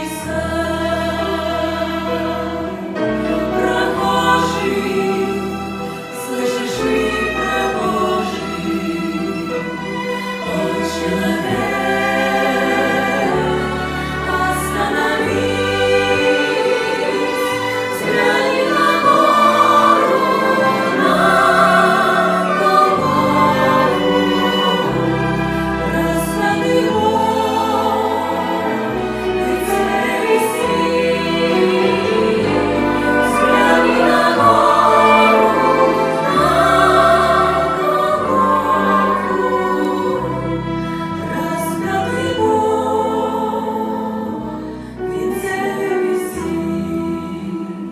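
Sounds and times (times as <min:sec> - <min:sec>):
choir singing sustained chords: 0:00.0 - 0:47.9.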